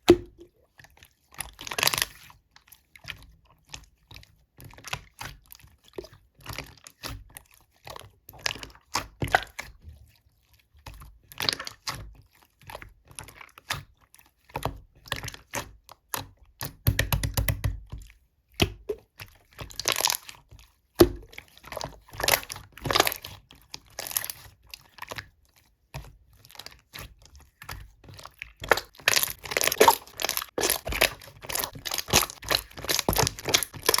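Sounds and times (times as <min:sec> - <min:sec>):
slime squishing with clicks and pops: 0:00.0 - 0:09.9, 0:10.9 - 0:34.0.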